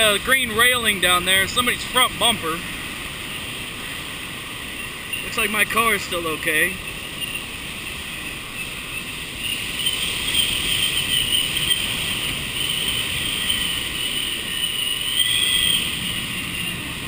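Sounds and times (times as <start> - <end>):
strong wind rushing and whistling: 0.0 - 17.0.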